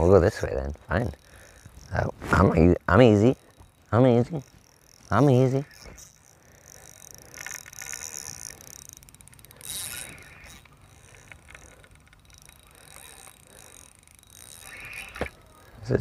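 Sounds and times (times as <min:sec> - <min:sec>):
fishing reel ratcheting click: 0:00.0 - 0:16.0.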